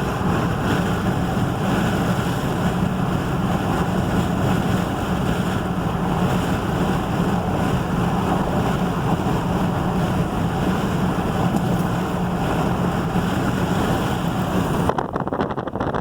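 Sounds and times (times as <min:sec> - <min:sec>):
vehicle road and engine noise: 0:00.0 - 0:16.0
wind buffeting microphone: 0:00.0 - 0:16.0.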